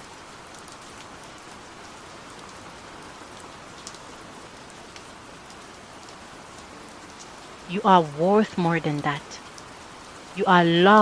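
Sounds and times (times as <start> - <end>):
steady rain hiss: 0.0 - 11.0
faint raindrop ticks: 0.1 - 7.8, 8.8 - 11.0.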